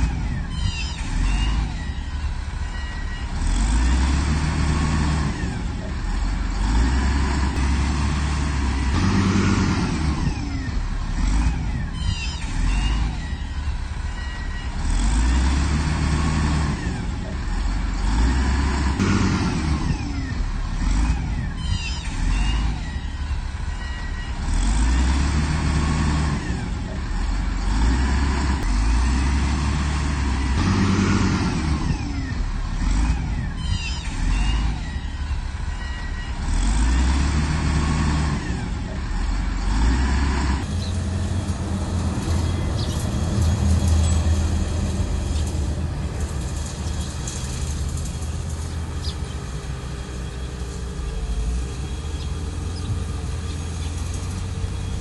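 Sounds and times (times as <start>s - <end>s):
diesel engine revving under load: 0.0s - 55.0s.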